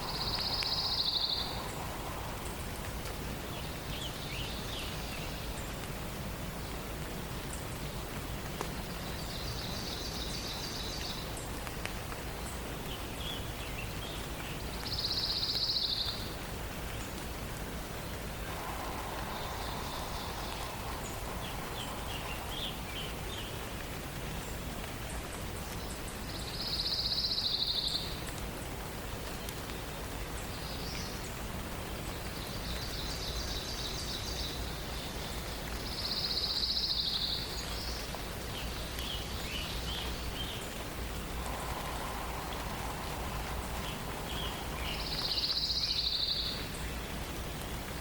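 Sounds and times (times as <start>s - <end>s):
songbirds singing: 0.0s - 48.0s
steady hiss: 0.0s - 48.0s.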